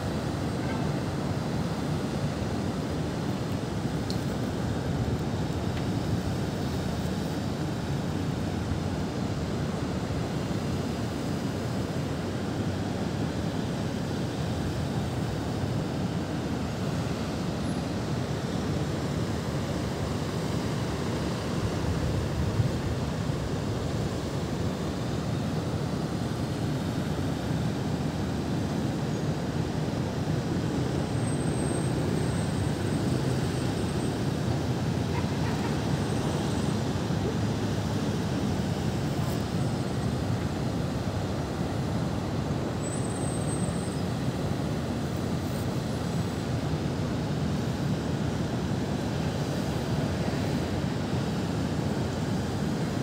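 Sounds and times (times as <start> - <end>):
city traffic hum: 0.0 - 53.0.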